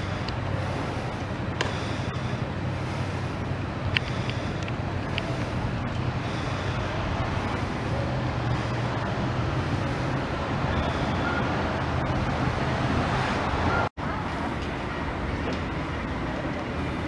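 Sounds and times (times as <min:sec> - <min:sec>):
city street traffic hum: 0:00.0 - 0:17.0.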